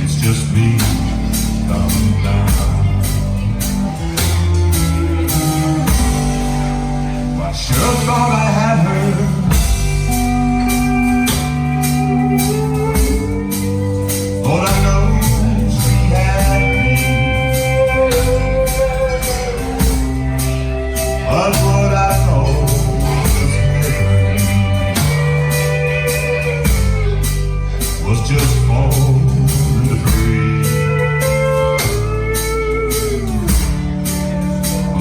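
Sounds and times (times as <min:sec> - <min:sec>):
blues-rock band playing: 0:00.0 - 0:35.0.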